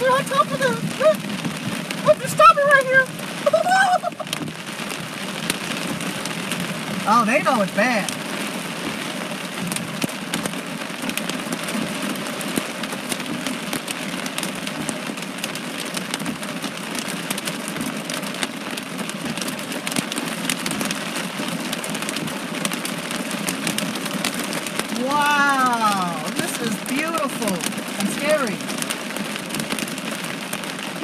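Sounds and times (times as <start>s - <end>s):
heavy rain on a vehicle: 0.0s - 31.0s.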